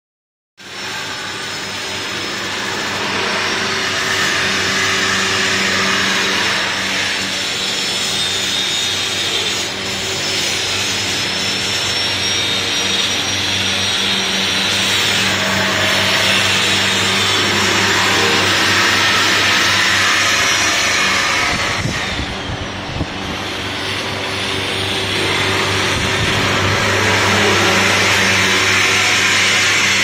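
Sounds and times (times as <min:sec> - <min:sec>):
machinery and power tools din: 0:00.6 - 0:30.0
thin high whine: 0:00.6 - 0:30.0.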